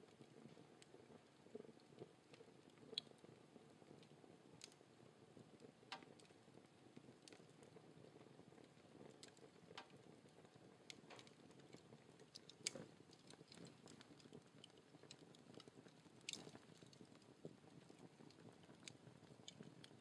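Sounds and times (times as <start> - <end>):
logs crackling in fireplace: 0.0 - 20.0.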